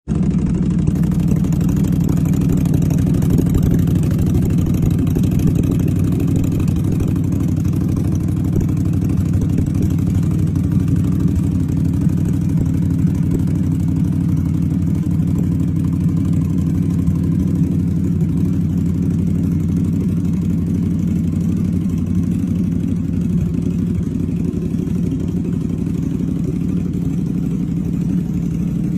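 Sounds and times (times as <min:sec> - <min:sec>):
motorcycle engine idling: 0:00.1 - 0:28.9.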